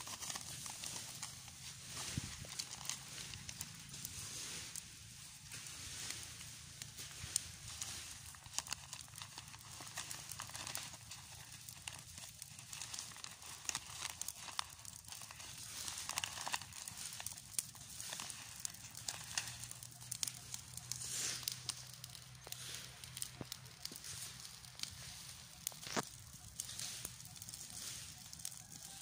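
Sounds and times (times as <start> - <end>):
dry leaves burning and crackling: 0.0 - 29.0.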